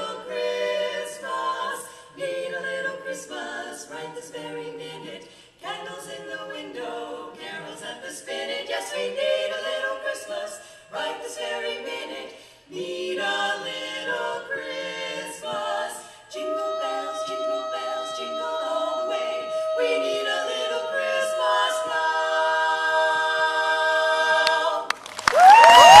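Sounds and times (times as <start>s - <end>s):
women singing a cappella harmony: 0.0s - 24.9s.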